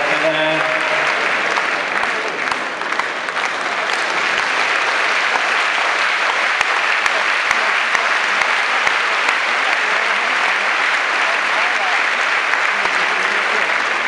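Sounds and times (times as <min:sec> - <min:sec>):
large crowd applauding: 0:00.0 - 0:14.0.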